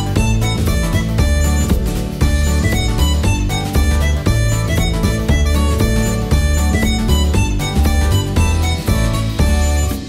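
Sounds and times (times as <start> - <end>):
music with plucked notes and bass: 0.0 - 10.0.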